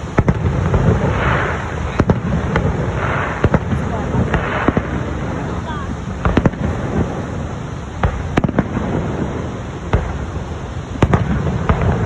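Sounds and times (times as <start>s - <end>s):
continuous low rumble: 0.0s - 12.0s
fireworks bangs: 0.0s - 12.0s.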